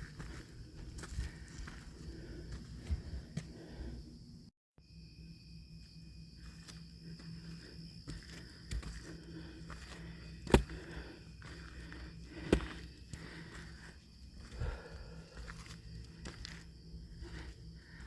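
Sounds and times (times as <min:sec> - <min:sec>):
footsteps on forest trail: 0:00.0 - 0:04.0, 0:05.8 - 0:18.0
high insect drone: 0:00.0 - 0:18.0.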